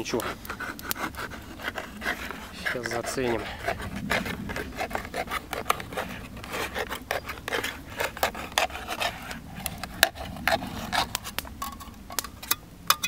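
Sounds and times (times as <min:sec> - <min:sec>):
metal scraping and clicking on tin: 0:00.1 - 0:13.0.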